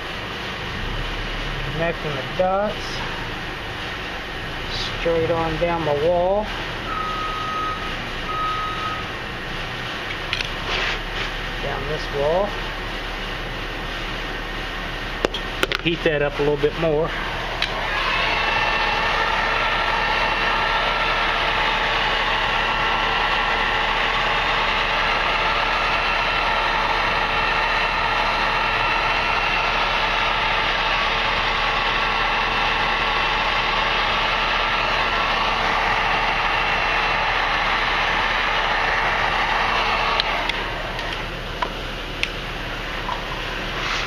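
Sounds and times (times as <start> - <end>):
heat gun whine and rushing air: 0.0 - 44.0.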